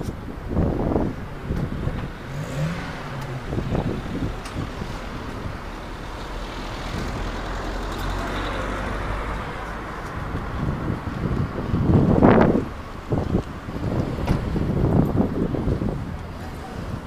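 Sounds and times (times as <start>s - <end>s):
wind on phone microphone: 0.0s - 7.9s, 8.8s - 17.0s
road traffic noise: 0.0s - 17.0s.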